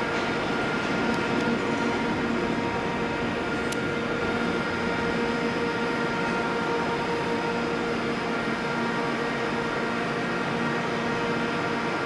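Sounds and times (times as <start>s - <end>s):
electric train humming and whining: 0.0s - 12.0s.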